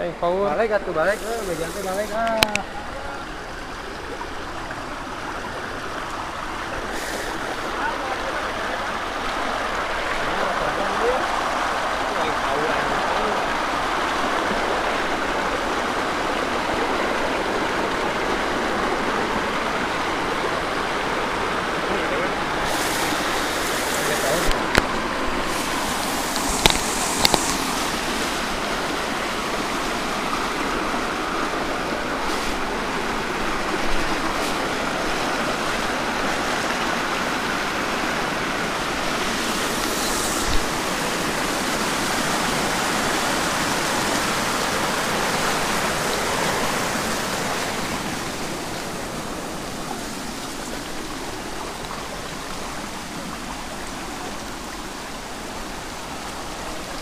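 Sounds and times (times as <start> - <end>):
water rushing down a stream: 0.0 - 57.0.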